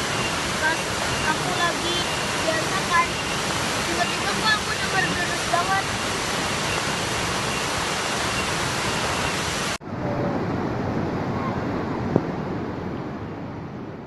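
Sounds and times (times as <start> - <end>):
waterfall roaring: 0.0 - 13.8.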